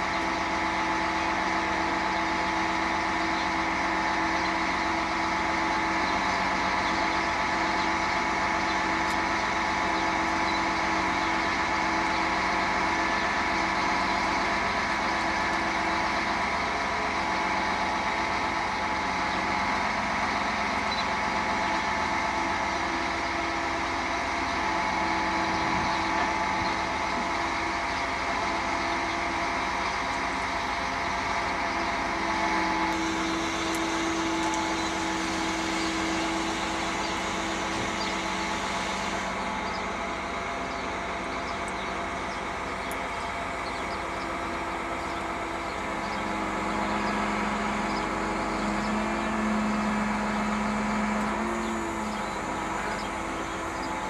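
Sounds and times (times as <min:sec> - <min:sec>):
crane engine droning: 0:00.0 - 0:54.0.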